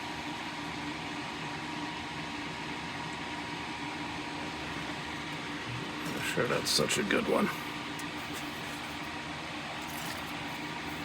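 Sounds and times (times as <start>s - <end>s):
electric fan whooshing hum: 0.0s - 11.0s.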